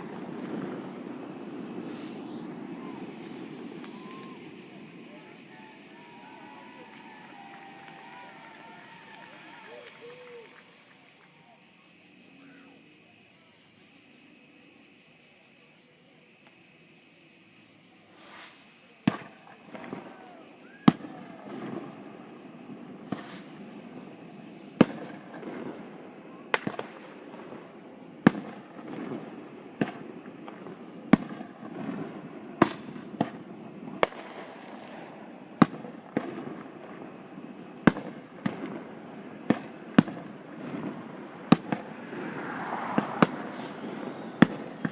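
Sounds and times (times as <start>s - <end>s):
distant fireworks bangs: 0.0s - 11.3s, 18.2s - 44.9s
fireworks crackling: 0.0s - 13.7s, 18.0s - 44.9s.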